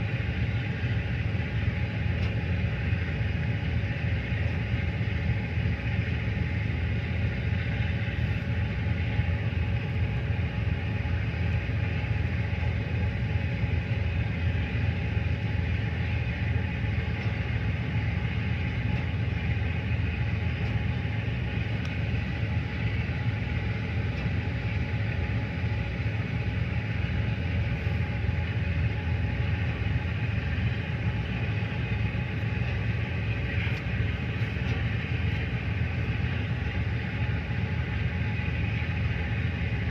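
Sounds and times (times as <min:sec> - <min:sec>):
boat engine rumbling: 0:00.0 - 0:39.9.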